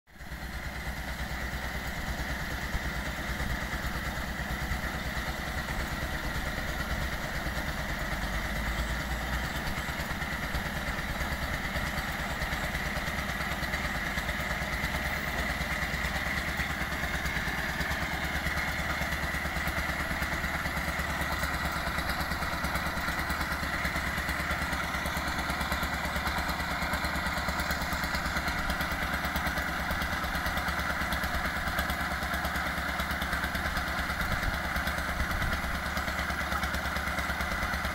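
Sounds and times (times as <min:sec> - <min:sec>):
small boat engine running: 0:00.1 - 0:37.9.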